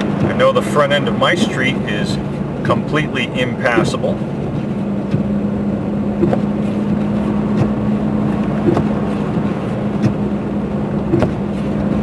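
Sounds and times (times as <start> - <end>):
engine and road drone: 0.0 - 12.0.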